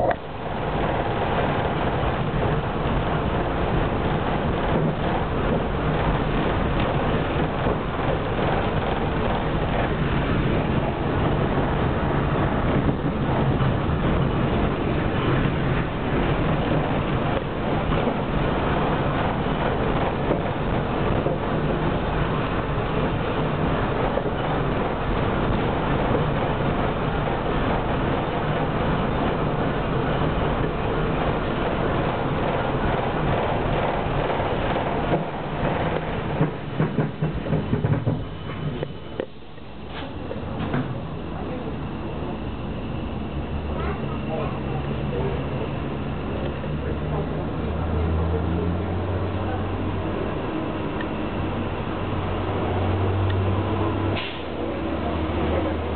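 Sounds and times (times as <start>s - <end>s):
tram wheels rumbling on rails: 0.0s - 55.9s.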